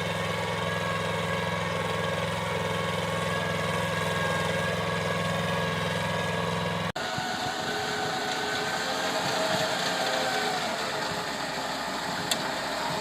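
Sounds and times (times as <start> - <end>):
different engine running: 0.0 - 13.0
small tractor engine running: 0.0 - 13.0.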